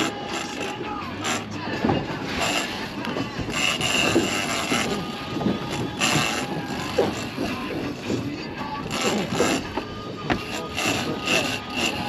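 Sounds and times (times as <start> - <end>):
fishing reel whirring: 0.0 - 1.5, 2.3 - 8.1, 8.8 - 12.0
sea noise: 0.0 - 12.0
wind: 0.0 - 12.0.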